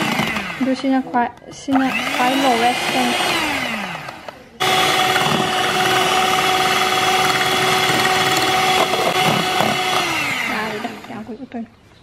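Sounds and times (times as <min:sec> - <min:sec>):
electric hand mixer whirring: 0:00.0 - 0:01.1, 0:01.7 - 0:11.4.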